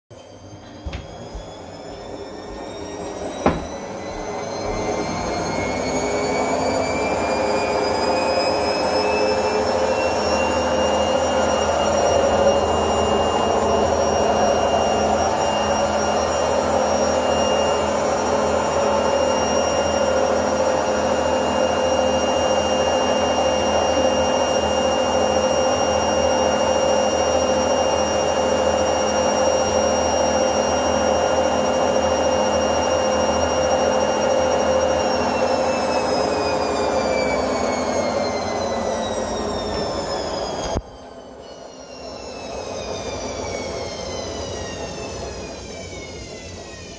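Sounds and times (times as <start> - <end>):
washing machine motor whine: 0.1 - 46.9.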